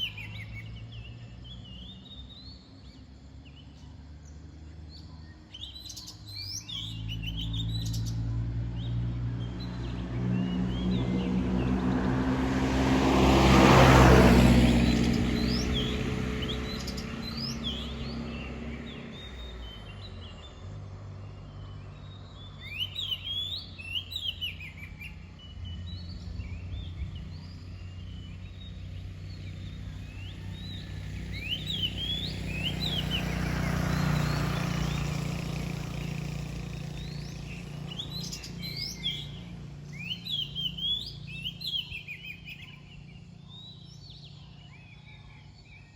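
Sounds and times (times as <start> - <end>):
bird singing whistled notes: 0.0 - 11.4, 14.8 - 35.7, 36.9 - 45.9
passing vehicles: 0.0 - 45.9.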